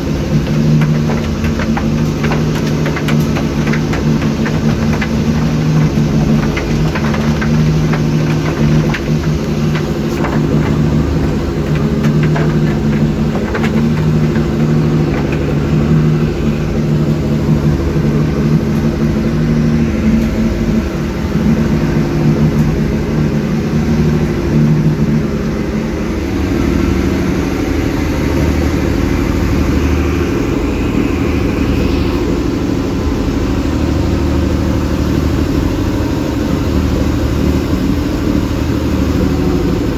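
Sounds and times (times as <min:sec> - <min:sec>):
boat engine running: 0:00.0 - 0:39.9
rushing boat wake: 0:00.0 - 0:39.9.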